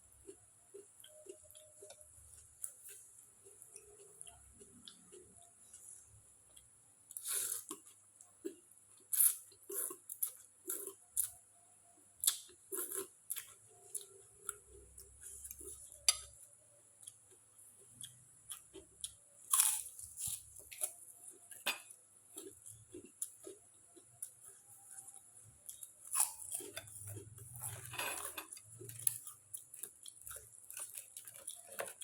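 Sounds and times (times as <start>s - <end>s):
chewing crunchy food: 0.0s - 32.0s.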